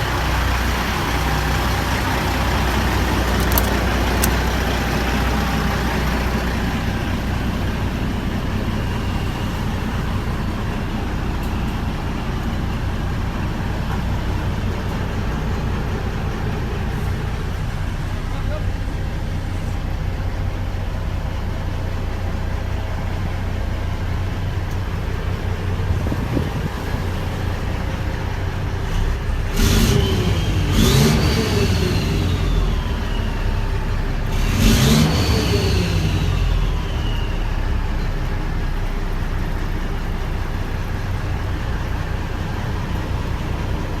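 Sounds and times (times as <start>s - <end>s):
diesel truck engine idling and revving: 0.0s - 44.0s.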